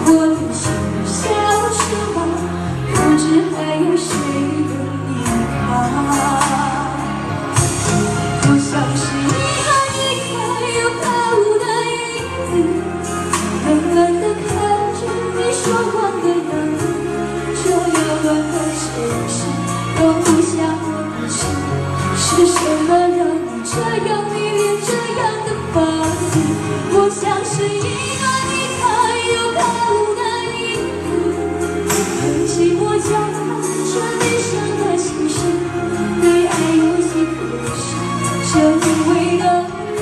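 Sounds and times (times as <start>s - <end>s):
backing music: 0.0s - 40.0s
woman singing pop ballad: 0.0s - 40.0s.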